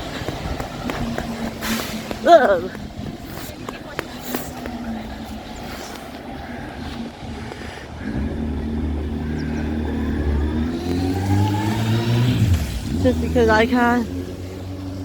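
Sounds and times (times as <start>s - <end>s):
bus engine accelerating: 0.0s - 15.0s.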